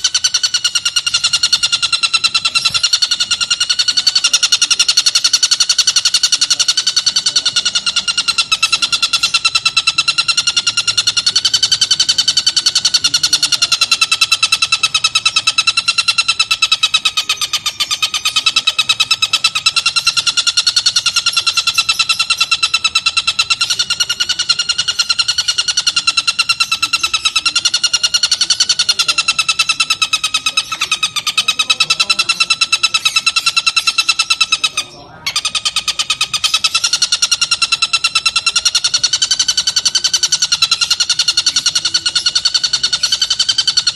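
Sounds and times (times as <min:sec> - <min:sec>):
bird rattling chatter: 0:00.0 - 0:43.9.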